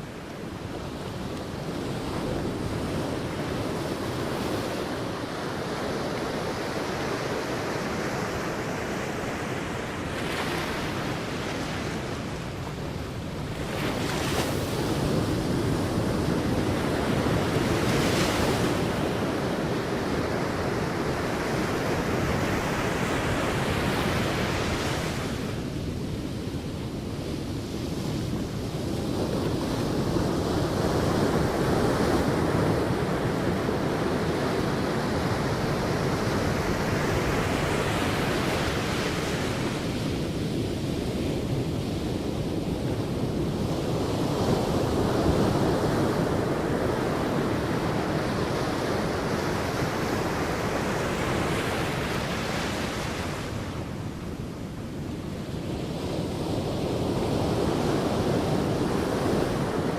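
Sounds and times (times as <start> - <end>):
sea waves washing onto beach: 0.0 - 59.9.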